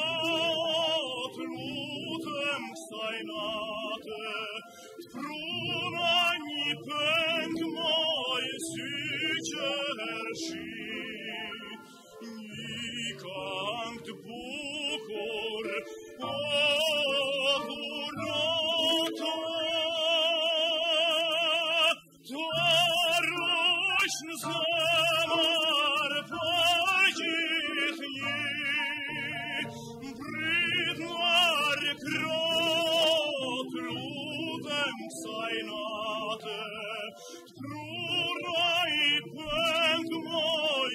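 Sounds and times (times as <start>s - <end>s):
classical singing with vibrato: 0.0s - 40.9s.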